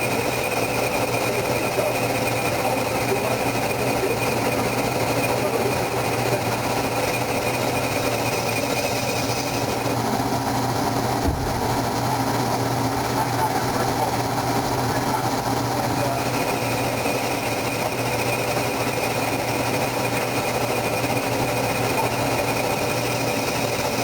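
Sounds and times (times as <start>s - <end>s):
high machine whine: 0.0s - 24.0s
lathe machine drone: 0.0s - 24.0s.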